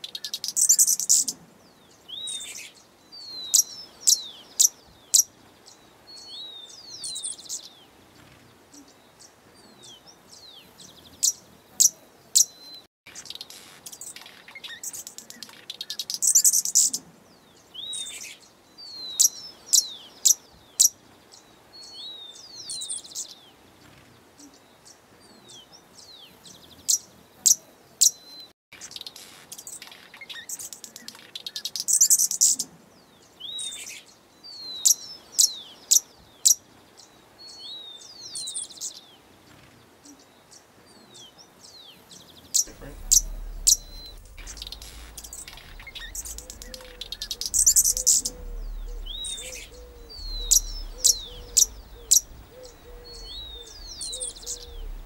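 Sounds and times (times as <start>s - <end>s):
songbirds chirping and whistling: 0.0s - 55.0s.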